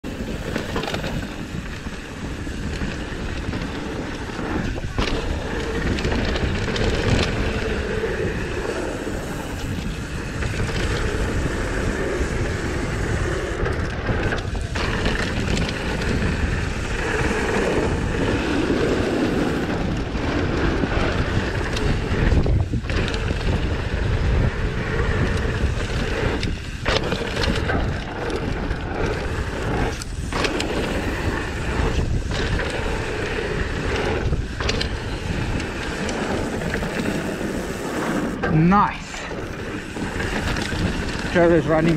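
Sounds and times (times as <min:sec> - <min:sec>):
bike tyres rumbling on trail: 0:00.0 - 0:41.9
wind buffeting microphone: 0:00.0 - 0:41.9.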